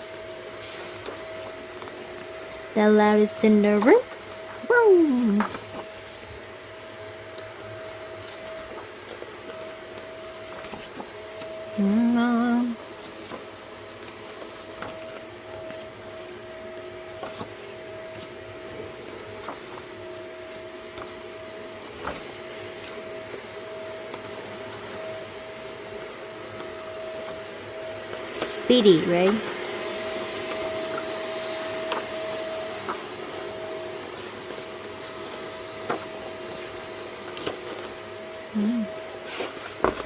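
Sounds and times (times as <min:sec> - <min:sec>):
steady machine hum: 0:00.0 - 0:40.0.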